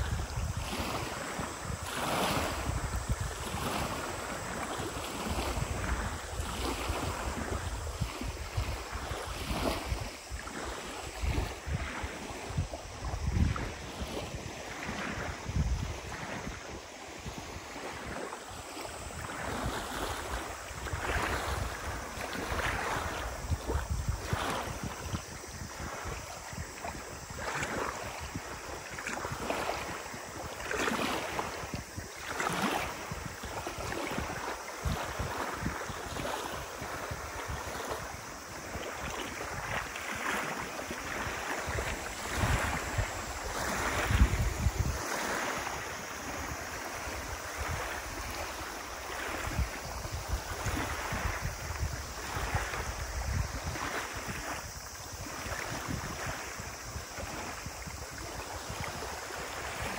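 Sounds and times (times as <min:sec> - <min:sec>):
lake waves lapping on gravel: 0:00.0 - 0:59.9
wind buffeting microphone: 0:00.0 - 0:59.9.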